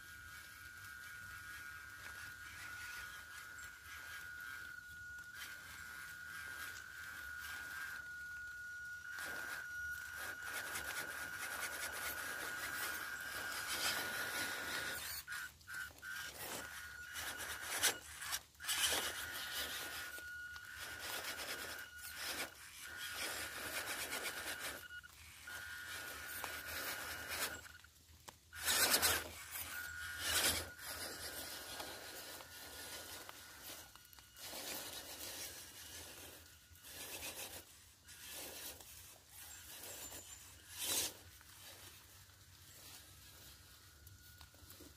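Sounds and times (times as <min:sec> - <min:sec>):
toy car motor whine: 0:00.0 - 0:44.9
tyres scrabbling through dirt: 0:00.0 - 0:44.9.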